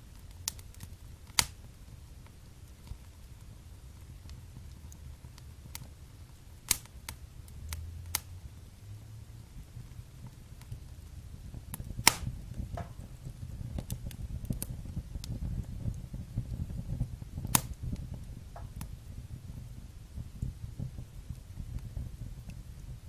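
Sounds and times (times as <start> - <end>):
low rumble of flame: 0.0 - 23.0
wood fire crackling: 0.0 - 23.0.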